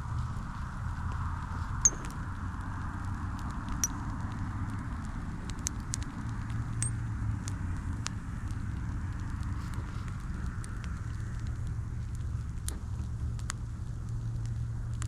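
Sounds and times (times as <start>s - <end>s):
campfire rumble and hiss: 0.0s - 15.0s
fire crackles and pops: 0.0s - 15.0s.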